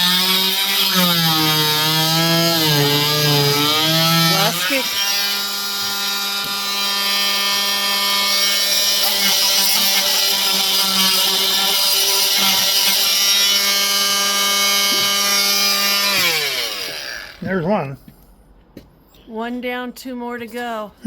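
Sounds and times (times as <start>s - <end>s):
power tool motor whine: 0.0s - 17.4s
cutting into hard door: 0.0s - 17.6s.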